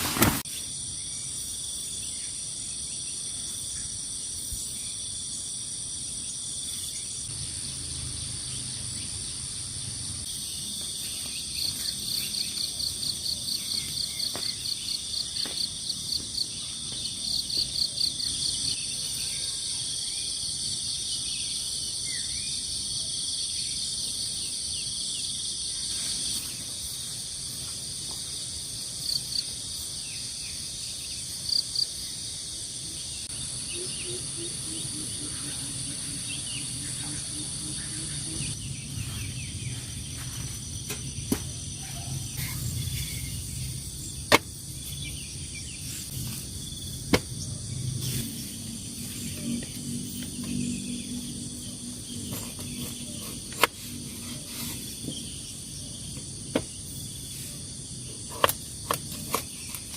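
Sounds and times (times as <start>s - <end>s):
crickets and night insects buzzing: 0.0s - 59.9s
insect chirping in a fast trill: 0.4s - 59.9s.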